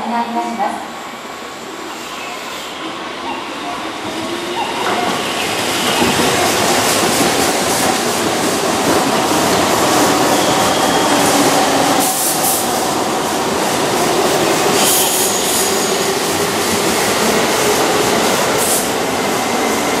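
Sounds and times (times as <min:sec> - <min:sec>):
train wheels rumbling on rails: 0:04.0 - 0:20.0.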